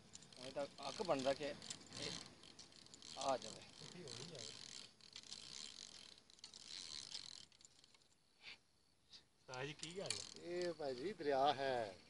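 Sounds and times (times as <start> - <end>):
fishing reel ratcheting whirr: 0.0 - 8.2, 9.5 - 12.0.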